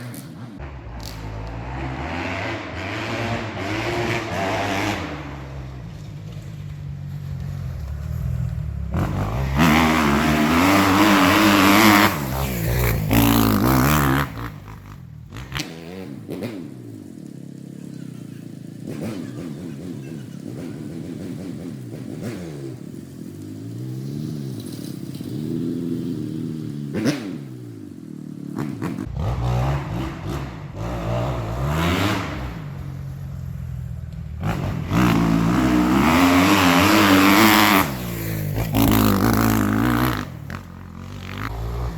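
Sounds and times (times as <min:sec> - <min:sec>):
motocross bikes revving: 0:00.0 - 0:41.9.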